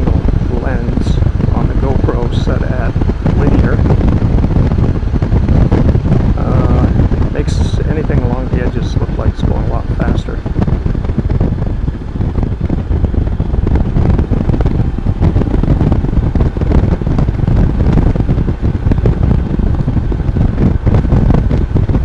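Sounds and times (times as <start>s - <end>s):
motorcycle and road noise: 0.0s - 22.0s
wind rushing on helmet microphone: 0.0s - 22.0s.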